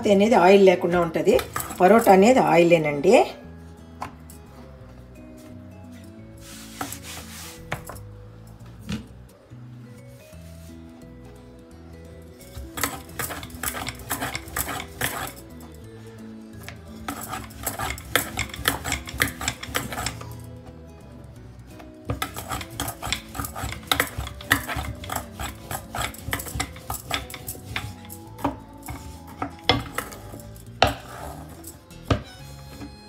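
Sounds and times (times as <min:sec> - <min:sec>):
background music: 0:00.0 - 0:33.0.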